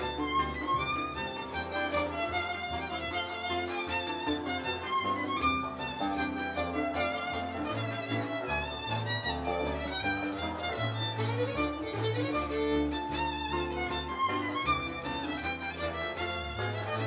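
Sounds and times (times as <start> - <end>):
fiddle melody: 0.0 - 17.0.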